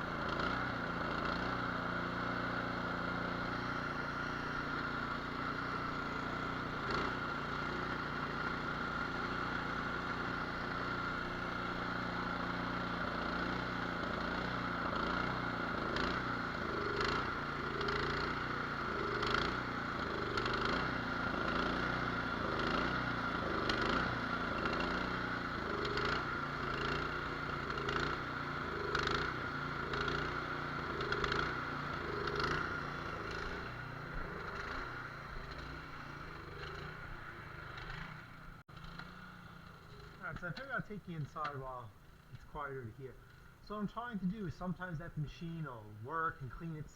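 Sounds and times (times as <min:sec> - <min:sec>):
snowblower engine running unevenly: 0:00.0 - 0:46.9.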